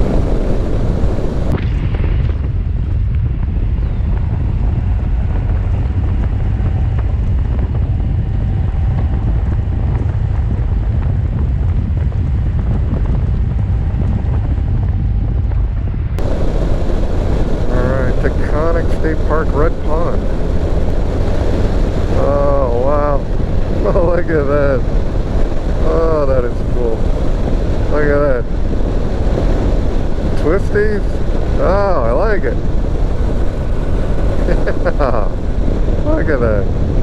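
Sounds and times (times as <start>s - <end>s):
motorcycle engine rumble: 0.0s - 37.0s
road noise: 0.0s - 37.0s
wind buffeting microphone: 0.0s - 37.0s.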